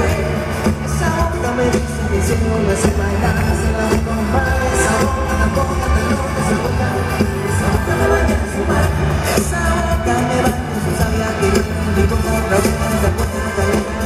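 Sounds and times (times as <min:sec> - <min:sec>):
live pop band playing: 0:00.0 - 0:14.0.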